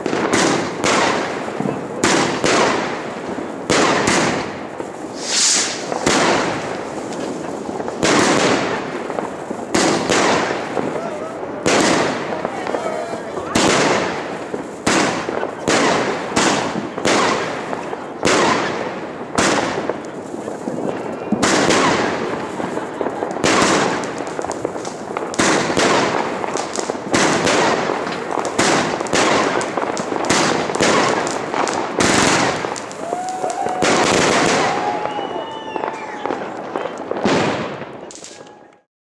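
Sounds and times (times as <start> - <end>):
fireworks bursting overhead: 0.0 - 38.9
fireworks launching with thumps: 0.0 - 38.9.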